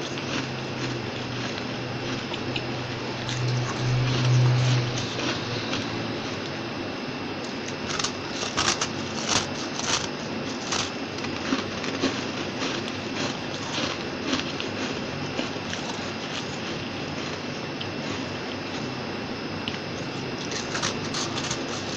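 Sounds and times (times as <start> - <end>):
frost crunching being chewed: 0.0 - 6.7, 7.4 - 19.0, 19.6 - 21.9.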